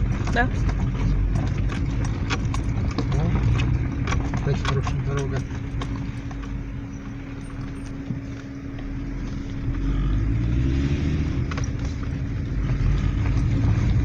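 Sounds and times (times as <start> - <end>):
car engine and tyres rumbling: 0.0 - 14.0
road surface clicks and knocks: 0.0 - 14.0.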